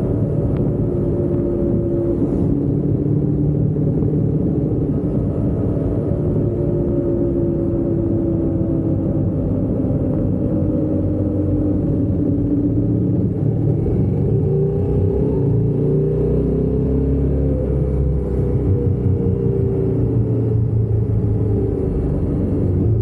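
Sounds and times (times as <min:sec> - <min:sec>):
road rumble: 0:00.0 - 0:23.0
wind on microphone: 0:00.0 - 0:23.0.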